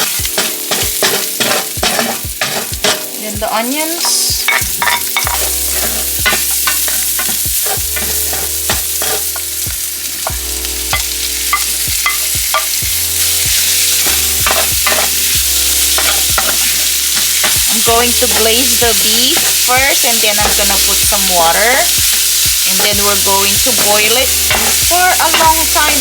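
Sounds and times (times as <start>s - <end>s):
garlic and onions sizzling in oil: 0.0s - 26.0s
utensil clicking against a pan: 0.0s - 26.0s.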